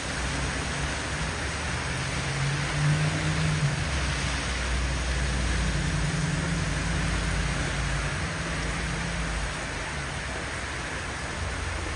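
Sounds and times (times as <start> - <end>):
car driving through wet street: 0.0 - 11.9
heavy rain falling: 0.0 - 11.9.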